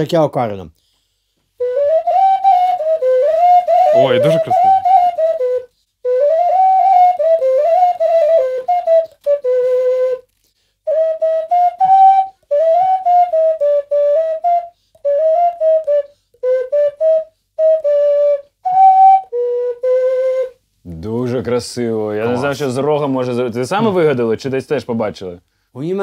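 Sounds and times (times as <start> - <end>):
ocarina melody: 1.5 - 21.0, 22.1 - 24.4.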